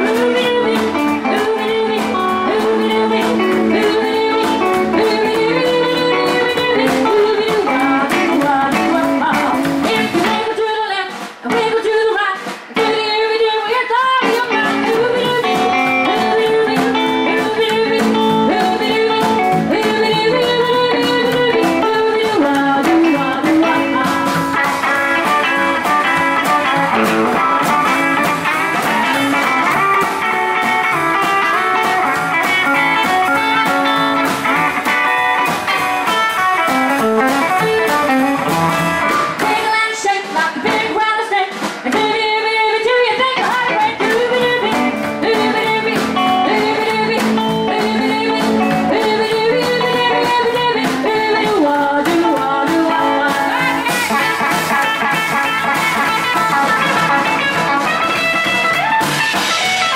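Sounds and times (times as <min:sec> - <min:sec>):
live rockabilly band: 0:00.0 - 0:59.9.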